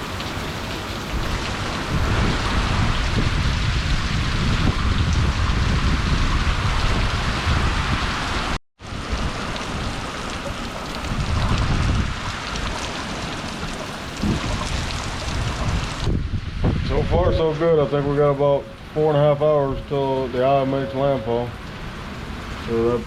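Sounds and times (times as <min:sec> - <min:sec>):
wind buffeting microphone: 0:00.0 - 0:18.9
heavy rain rushing: 0:00.0 - 0:23.0.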